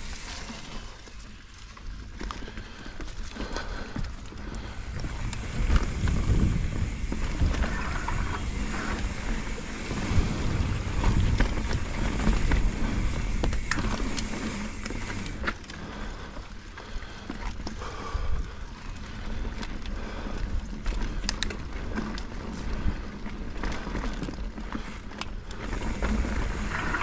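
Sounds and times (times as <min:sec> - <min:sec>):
bike rattling and clicking: 0:00.0 - 0:27.0
bike tyres rumbling over ground: 0:00.0 - 0:27.0.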